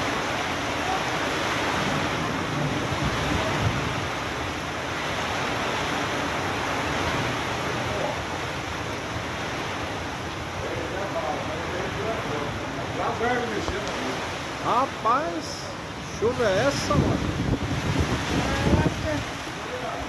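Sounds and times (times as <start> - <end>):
heavy rain on pavement: 0.0 - 20.0.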